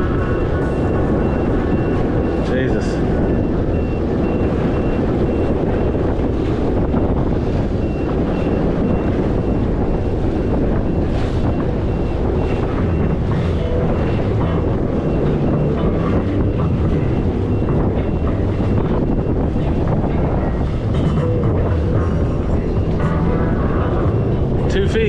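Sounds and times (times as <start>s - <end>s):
jet ski engine: 0.0s - 25.0s
wind buffeting microphone: 0.0s - 25.0s.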